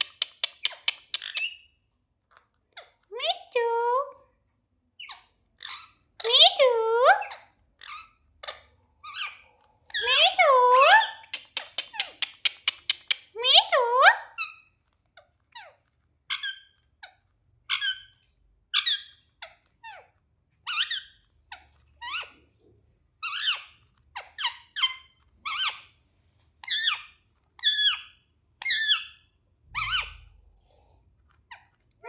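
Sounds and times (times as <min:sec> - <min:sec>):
parrot chirping calls: 0:00.0 - 0:01.8, 0:05.0 - 0:22.6, 0:23.2 - 0:25.9, 0:26.6 - 0:30.4.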